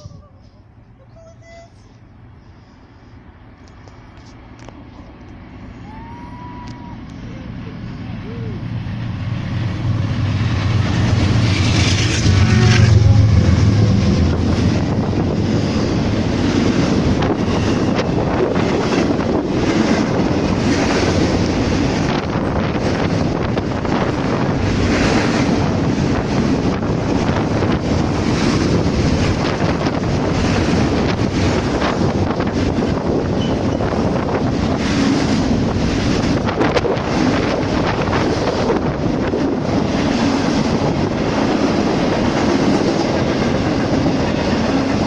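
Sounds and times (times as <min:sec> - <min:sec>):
diesel locomotive engine rumble: 0:00.0 - 0:45.0
train wheels rolling: 0:03.5 - 0:45.0
wind blasting the microphone: 0:08.9 - 0:45.0.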